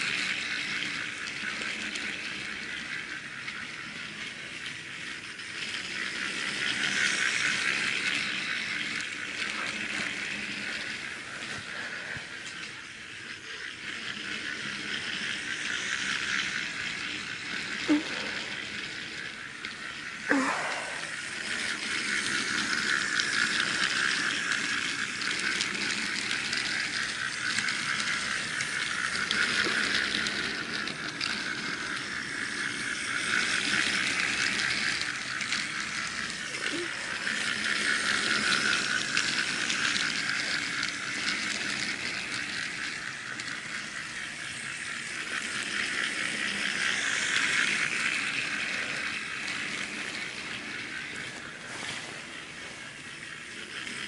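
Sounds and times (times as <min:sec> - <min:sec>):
toy train motor whirring: 0:00.0 - 0:54.0
wheels rattling over plastic track: 0:00.0 - 0:54.0.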